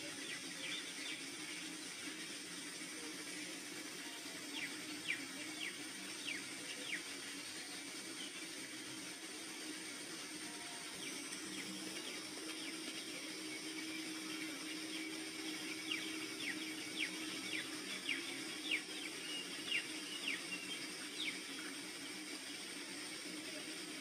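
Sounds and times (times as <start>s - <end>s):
soft ambient music: 0.0s - 24.0s
steady hiss: 0.0s - 24.0s.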